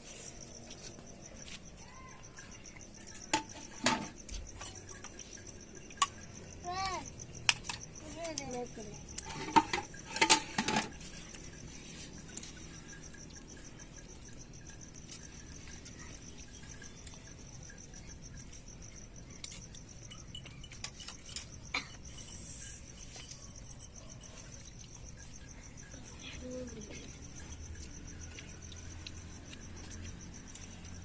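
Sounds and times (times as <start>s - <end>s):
crickets chirping: 0.0s - 31.0s
sharp clicks and clinks: 2.2s - 31.0s.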